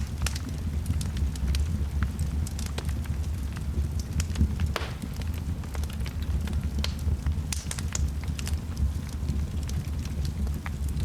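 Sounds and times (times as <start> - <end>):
fire flames rumbling: 0.0 - 11.0
logs crackling and popping: 0.0 - 11.0.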